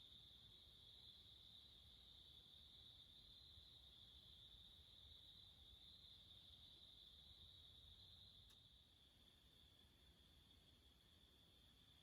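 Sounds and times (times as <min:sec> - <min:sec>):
faint high-pitched hum: 0:00.0 - 0:12.0.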